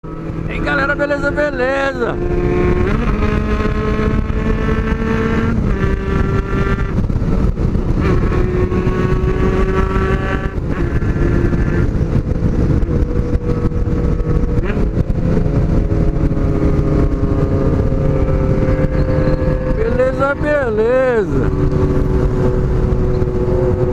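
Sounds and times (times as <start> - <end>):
motorcycle engines running: 0.0 - 23.9.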